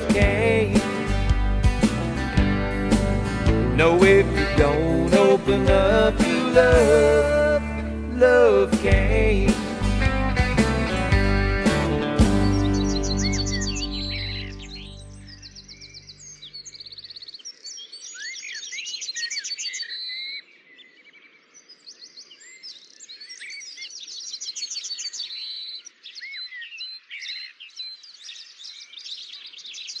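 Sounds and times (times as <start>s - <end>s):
songbirds chirping and trilling: 0.0s - 10.0s, 10.8s - 30.0s.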